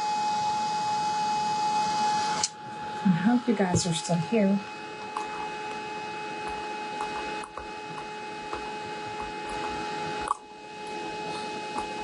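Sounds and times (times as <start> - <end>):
two-tone electrical hum: 0.0 - 12.0.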